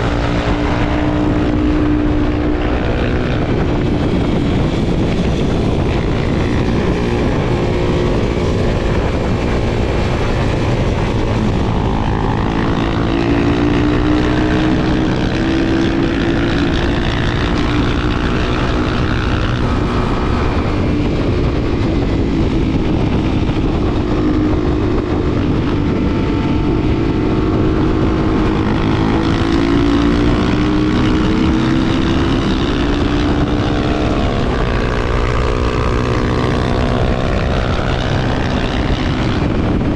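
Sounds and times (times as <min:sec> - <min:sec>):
motorcycle engine running: 0:00.0 - 0:39.9
rush of noise: 0:00.0 - 0:39.9.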